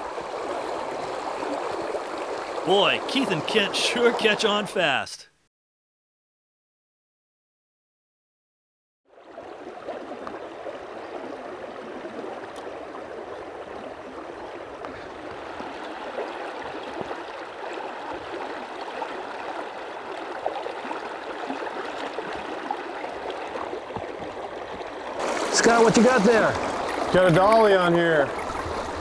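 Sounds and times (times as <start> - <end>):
shallow river flowing: 0.0 - 5.0, 9.1 - 29.0.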